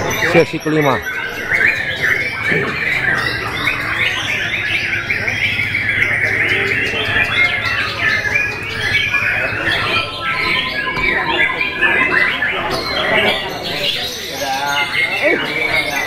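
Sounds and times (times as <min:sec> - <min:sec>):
songbirds whistling and chirping: 0:00.0 - 0:16.0.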